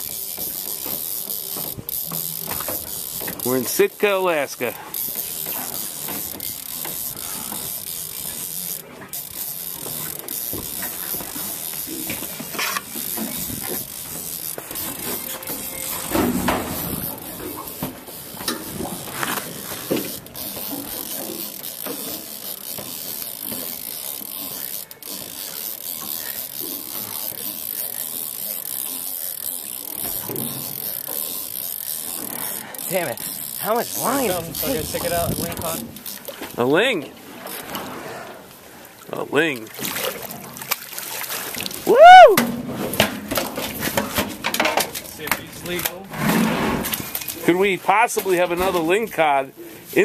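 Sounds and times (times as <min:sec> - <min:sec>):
fishing reel whirring and clicking: 0:00.0 - 0:38.6, 0:39.2 - 0:46.1, 0:46.9 - 0:49.5.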